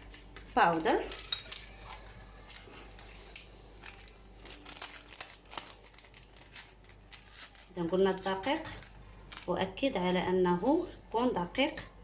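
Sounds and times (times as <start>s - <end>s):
paper sachets crinkling: 0.0s - 10.8s.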